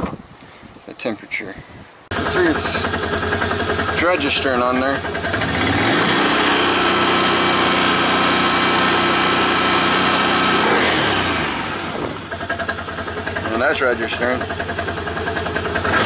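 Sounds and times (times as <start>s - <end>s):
atv engine running: 2.1s - 16.0s.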